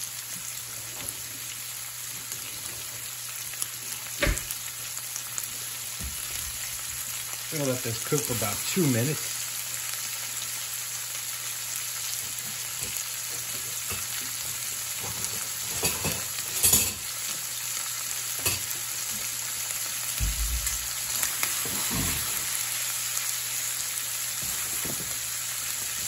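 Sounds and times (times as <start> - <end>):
shrimp sizzling in oil: 0.0 - 26.0.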